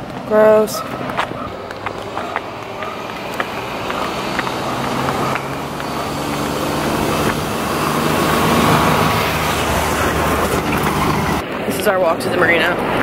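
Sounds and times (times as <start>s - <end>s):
tyre noise on road: 0.0s - 13.0s
vehicle engine hum: 0.0s - 13.0s.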